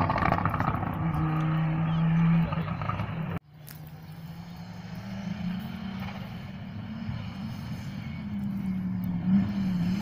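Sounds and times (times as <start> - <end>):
rally car engine running loud: 0.0 - 10.0.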